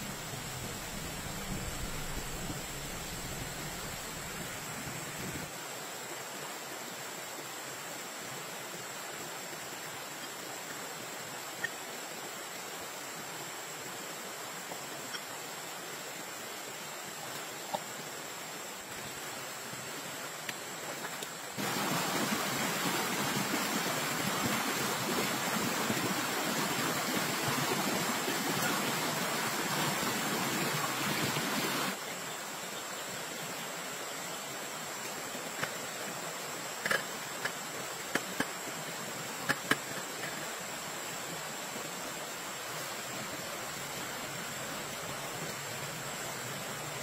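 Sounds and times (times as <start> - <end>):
stream flowing over stones: 0.0 - 47.0.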